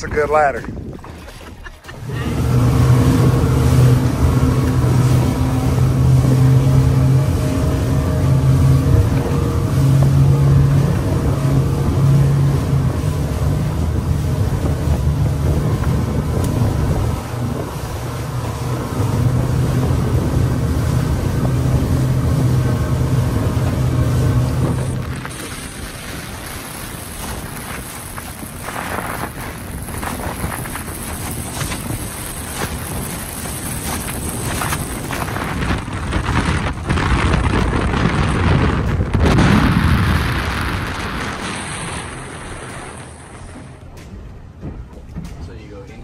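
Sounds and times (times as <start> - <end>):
outboard engines droning: 0.0 - 46.0.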